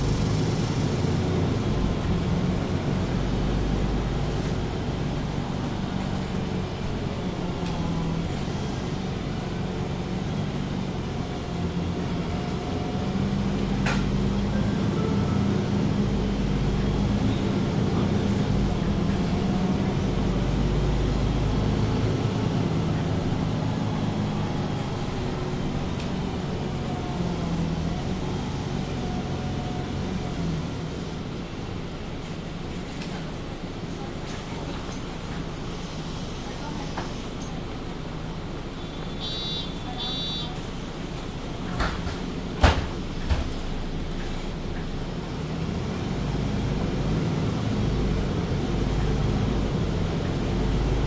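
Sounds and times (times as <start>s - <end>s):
bus diesel engine: 0.0s - 51.0s.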